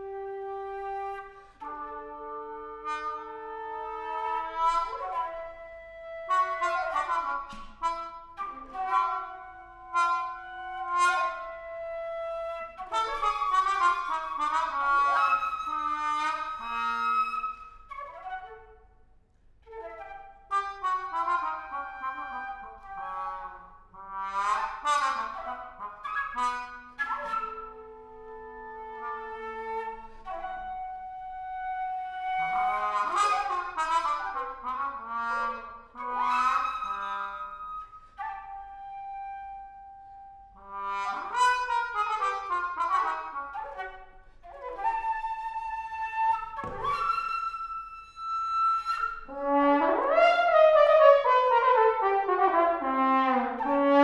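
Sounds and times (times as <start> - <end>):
flute: 0.0 - 54.0.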